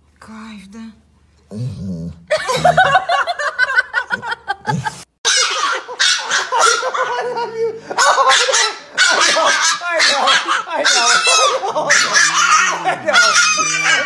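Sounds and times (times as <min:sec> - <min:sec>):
people laughing: 0:02.3 - 0:14.0.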